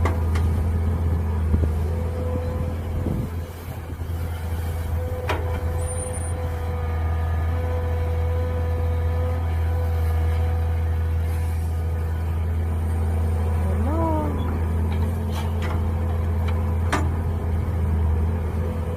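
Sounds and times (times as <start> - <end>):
continuous whine: 0.0 - 18.9
excavator engine running: 0.0 - 18.9.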